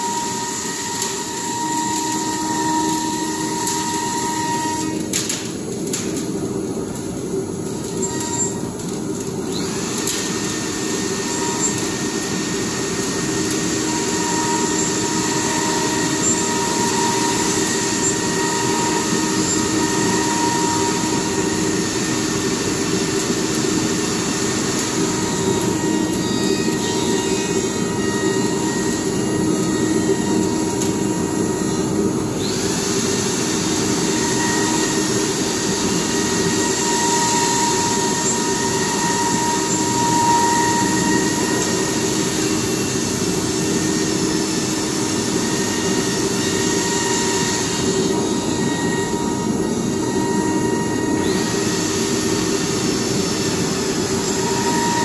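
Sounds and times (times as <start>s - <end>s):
router cutting hiss: 0.0s - 6.2s, 7.7s - 55.0s
machine hum: 0.0s - 55.0s
spindle whine: 9.4s - 55.0s.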